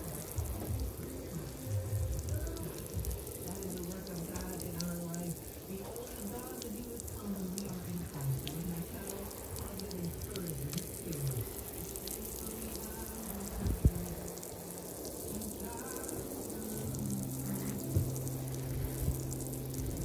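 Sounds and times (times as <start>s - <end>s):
liquid sprinkling from watering can: 0.0s - 20.0s.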